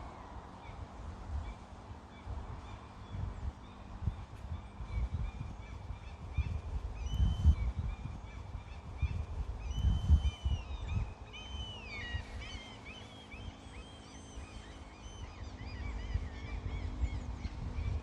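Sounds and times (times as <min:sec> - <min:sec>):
birds singing and chirping: 0:01.4 - 0:18.0.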